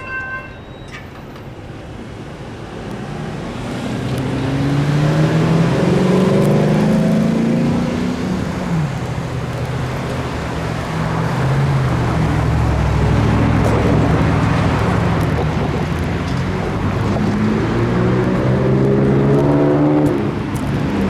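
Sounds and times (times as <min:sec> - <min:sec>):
heavy engines rumbling: 0:00.0 - 0:21.0.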